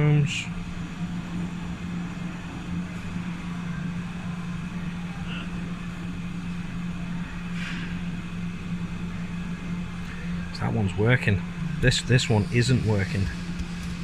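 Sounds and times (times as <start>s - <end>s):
mechanical hum with hiss: 0.0s - 14.0s.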